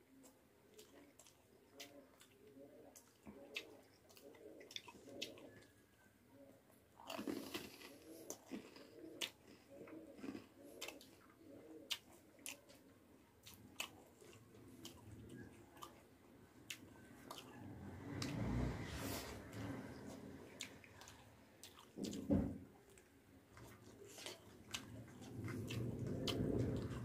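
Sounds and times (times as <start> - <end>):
chewing with crunches: 0.1 - 27.0.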